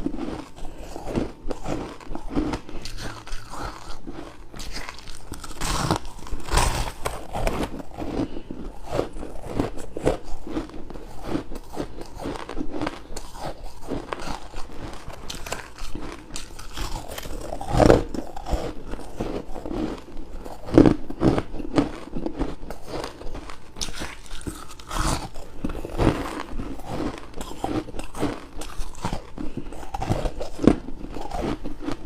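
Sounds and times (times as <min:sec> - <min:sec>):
crunching ice: 0:00.0 - 0:32.0.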